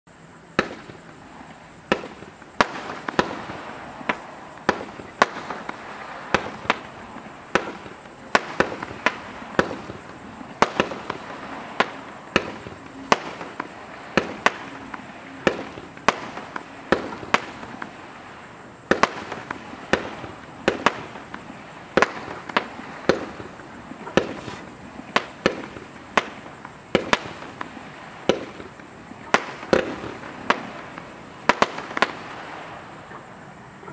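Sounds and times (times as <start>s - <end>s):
firework hiss: 0.1s - 33.8s
firework bangs: 0.5s - 33.5s.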